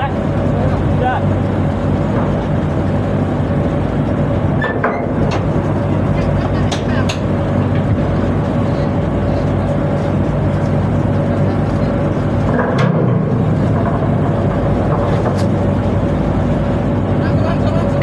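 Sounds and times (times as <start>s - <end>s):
boat machinery humming and whining: 0.0s - 18.0s.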